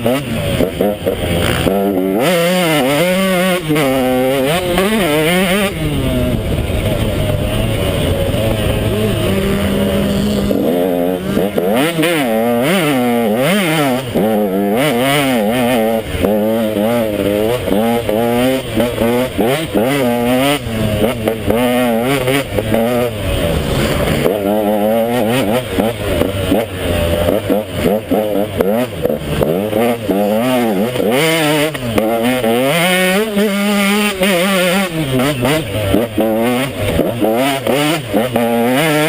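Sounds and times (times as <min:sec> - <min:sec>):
two-stroke dirt bike revving: 0:00.0 - 0:39.0.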